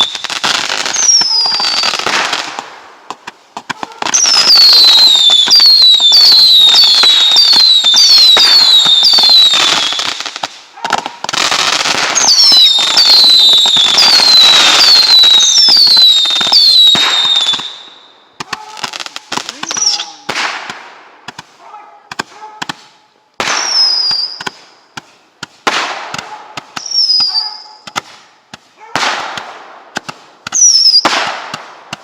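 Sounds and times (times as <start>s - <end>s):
fireworks bangs and pops: 0.0s - 32.0s
fireworks crackling: 0.0s - 32.0s
fireworks whistling: 0.0s - 32.0s.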